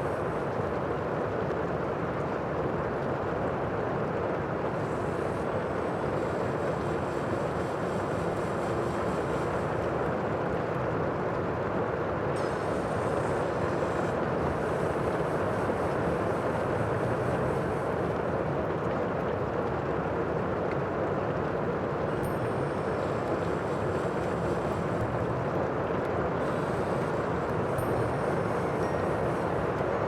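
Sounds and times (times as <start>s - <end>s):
rushing water: 0.0s - 30.0s
wind: 0.0s - 30.0s.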